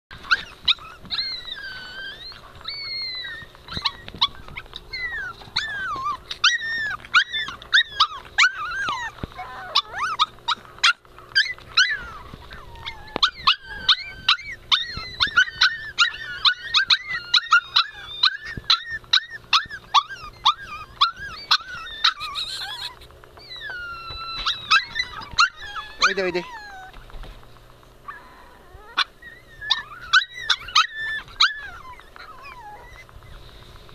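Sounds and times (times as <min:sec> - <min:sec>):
puppies whining and yelping: 0:00.1 - 0:33.9.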